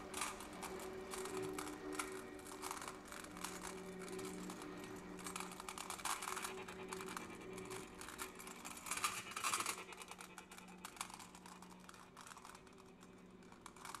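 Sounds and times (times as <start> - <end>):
faint low hum: 0.0 - 14.0
soft crackling and clicking: 0.0 - 14.0.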